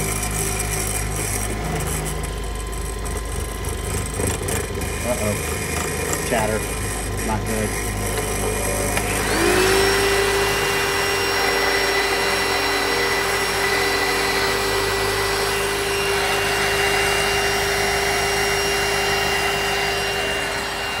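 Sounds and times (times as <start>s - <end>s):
milling machine cutting aluminium: 0.0s - 21.0s
shop vacuum whining: 0.0s - 21.0s.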